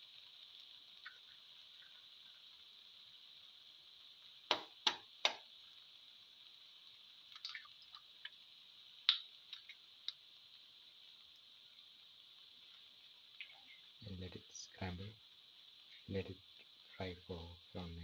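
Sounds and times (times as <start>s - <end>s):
eggs sizzling in oil: 0.0s - 18.0s.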